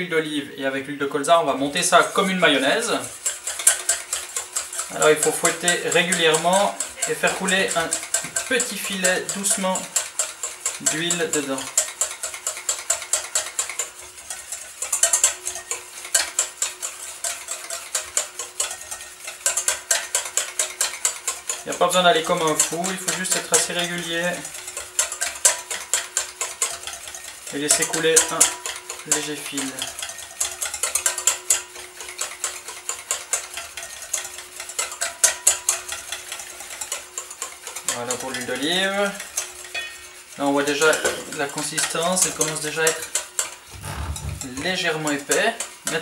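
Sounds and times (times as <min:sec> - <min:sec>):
whisk clinking against metal bowl: 0:01.8 - 0:46.0.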